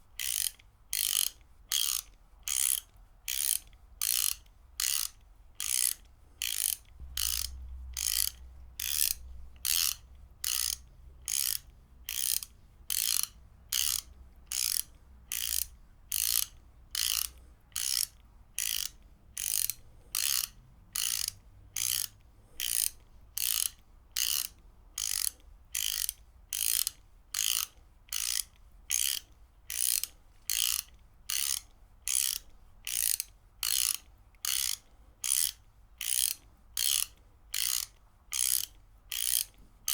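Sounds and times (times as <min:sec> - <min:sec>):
ratchet wrench clicking: 0:00.2 - 0:39.9.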